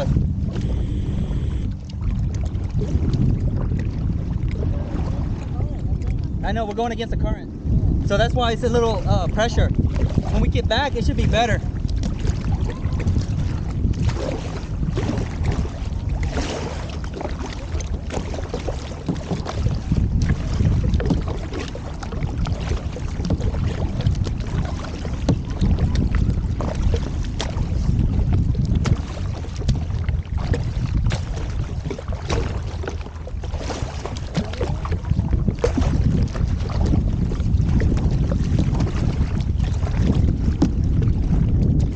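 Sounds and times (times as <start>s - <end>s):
paddle strokes splashing: 0.0s - 6.9s, 7.8s - 41.9s
wind buffeting microphone: 0.0s - 41.9s.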